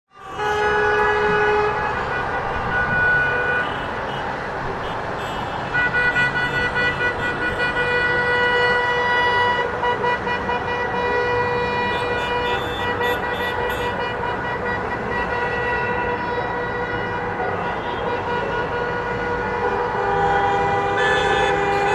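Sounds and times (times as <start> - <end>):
horns blaring: 0.1 - 21.9.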